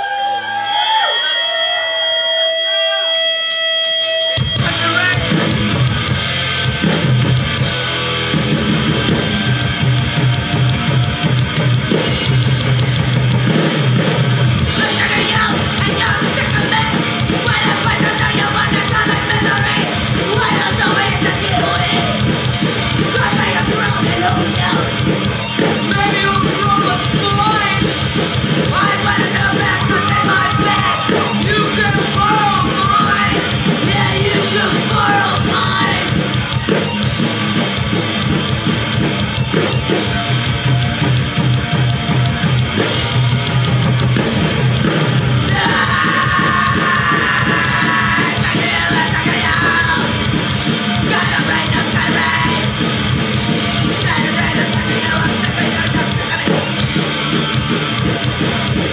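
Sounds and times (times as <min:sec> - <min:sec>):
punk rock band playing live: 0:01.4 - 0:58.9.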